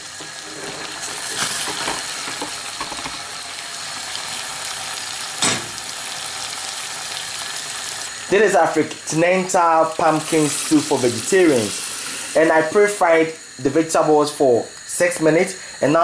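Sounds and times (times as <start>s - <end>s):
vegetables sizzling in pot: 0.0s - 16.0s.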